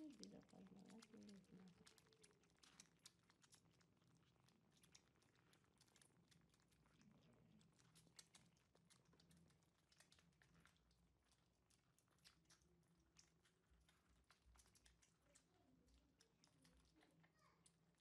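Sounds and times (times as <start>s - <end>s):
kittens crunching dry food: 0.0s - 18.0s.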